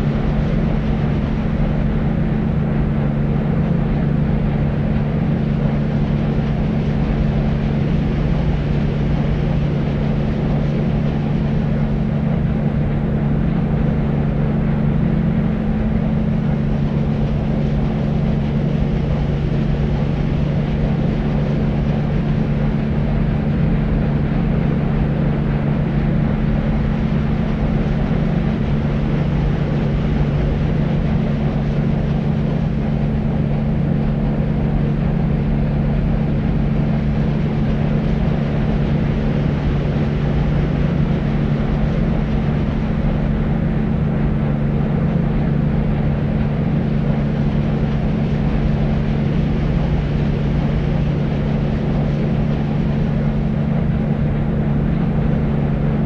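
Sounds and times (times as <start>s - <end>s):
low hum: 0.0s - 56.0s
low rumbling white noise: 0.0s - 56.0s.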